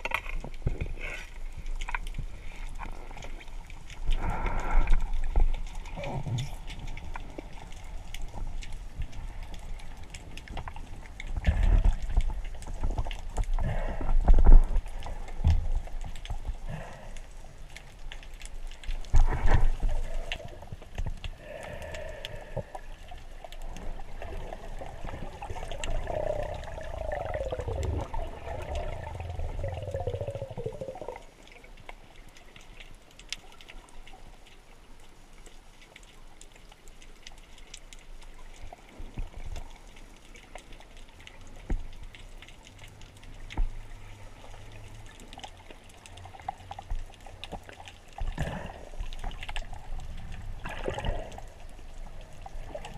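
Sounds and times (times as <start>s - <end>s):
underwater gurgling and bubbling: 0.0s - 31.9s, 41.4s - 52.9s.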